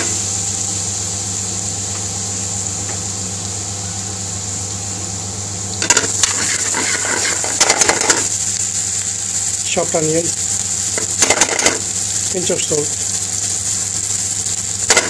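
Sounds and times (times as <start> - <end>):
low mechanical hum: 0.0 - 15.0
paste sizzling in hot oil: 0.0 - 15.0.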